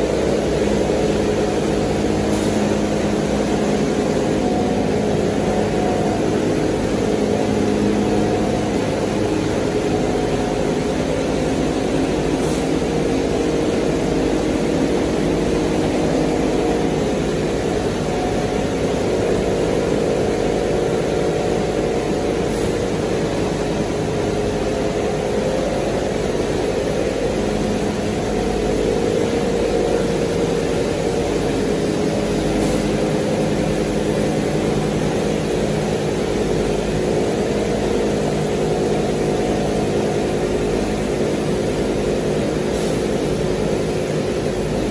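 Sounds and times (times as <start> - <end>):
machine drone with steady hum: 0.0 - 44.9.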